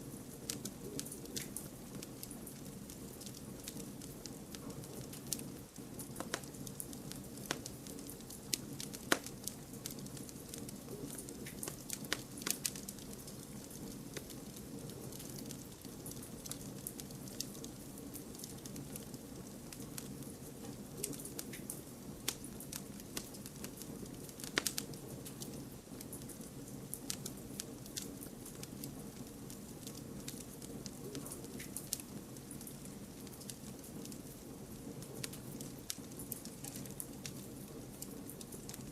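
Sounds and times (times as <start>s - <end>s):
campfire crackling and popping: 0.0s - 38.9s
campfire hiss: 0.0s - 38.9s.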